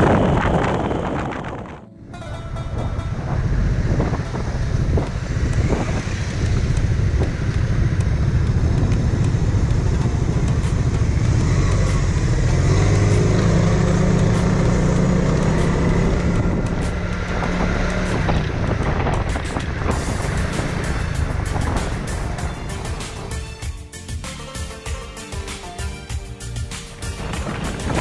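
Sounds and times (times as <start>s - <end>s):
motorcycle engine running: 0.0s - 24.1s, 26.5s - 28.0s.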